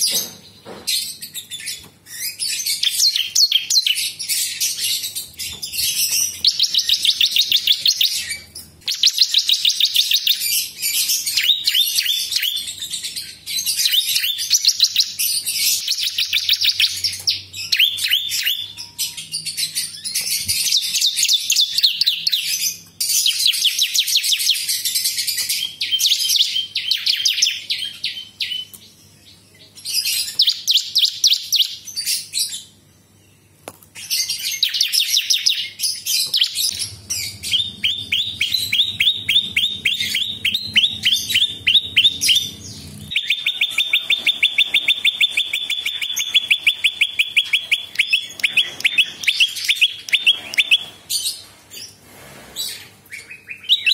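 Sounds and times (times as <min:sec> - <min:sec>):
bird singing chattering trills: 0:00.0 - 0:32.7, 0:34.0 - 0:51.4.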